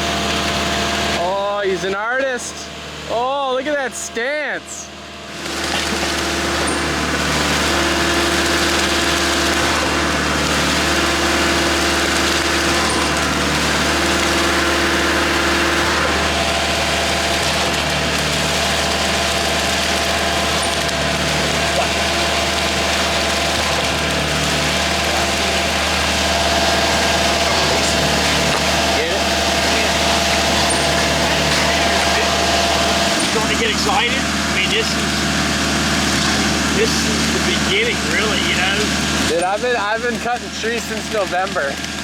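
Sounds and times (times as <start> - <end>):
concrete mixer truck engine running: 0.0 - 42.0.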